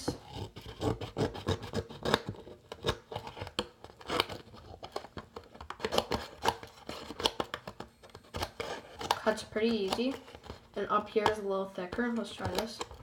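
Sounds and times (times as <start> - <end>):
scissors snipping paper: 0.0 - 13.0.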